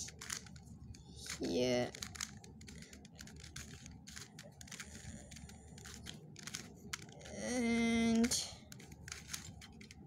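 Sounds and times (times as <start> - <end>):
puzzle cube clicking: 0.0 - 10.0.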